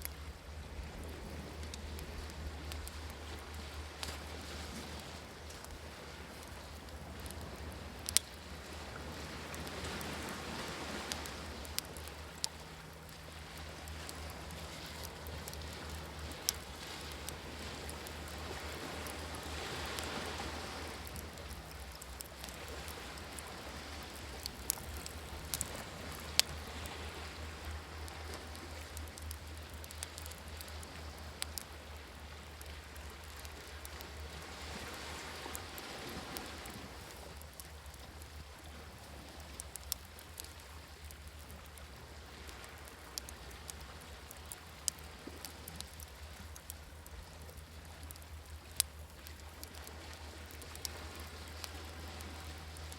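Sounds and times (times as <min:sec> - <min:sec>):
campfire crackling and popping: 0:00.0 - 0:52.9
waves washing: 0:00.0 - 0:52.9.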